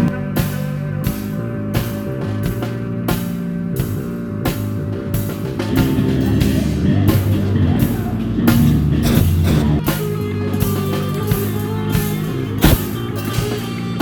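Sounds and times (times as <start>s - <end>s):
band music: 0.0s - 14.0s
drum and cymbal hits: 0.0s - 14.0s
guitar: 0.0s - 14.0s.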